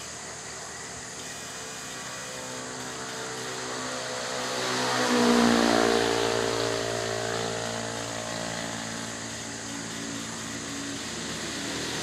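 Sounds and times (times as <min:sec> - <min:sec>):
electric rig humming tones: 0:00.0 - 0:12.0.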